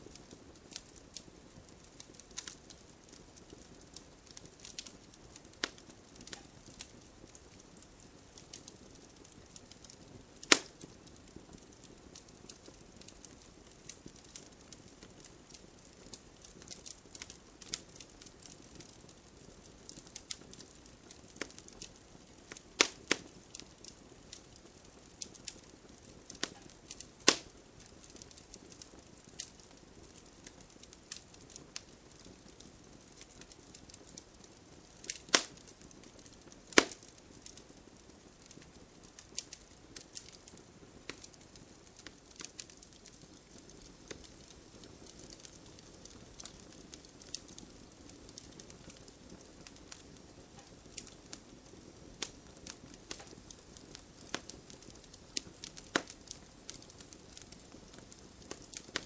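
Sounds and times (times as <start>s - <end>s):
wood bonfire crackling: 0.0s - 59.0s.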